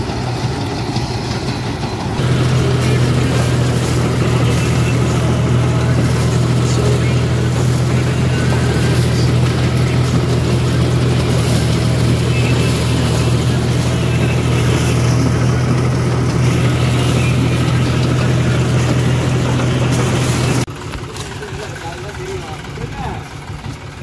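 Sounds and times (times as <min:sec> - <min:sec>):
harvester engine droning: 0:00.0 - 0:24.0.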